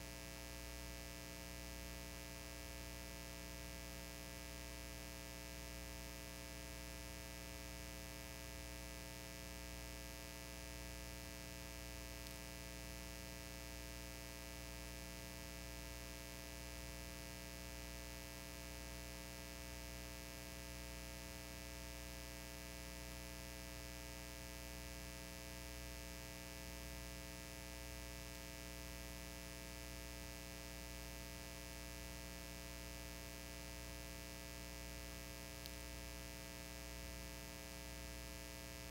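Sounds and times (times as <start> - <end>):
steady electrical hum: 0.0 - 38.9.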